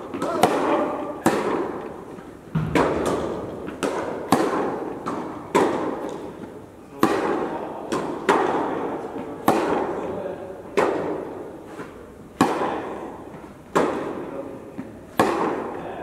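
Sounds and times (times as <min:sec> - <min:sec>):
tennis ball bounces: 0:00.0 - 0:10.1, 0:10.7 - 0:16.0
tennis racket strikes: 0:00.0 - 0:15.9.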